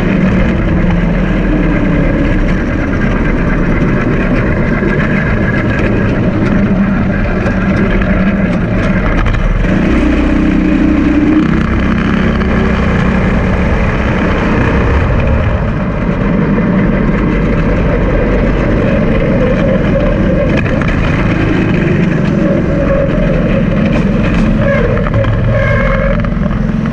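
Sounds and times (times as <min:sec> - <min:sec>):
go-kart engine running: 0:00.0 - 0:26.9
tyre and road noise: 0:00.0 - 0:26.9.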